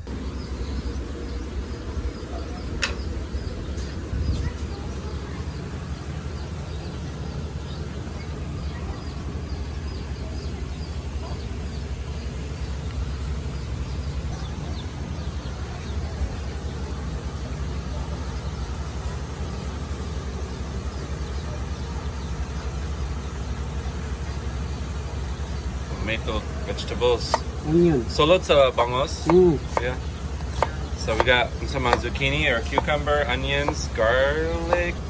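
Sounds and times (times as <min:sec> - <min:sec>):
small birds chirping: 0:00.0 - 0:35.0
steady low rumble: 0:00.0 - 0:35.0.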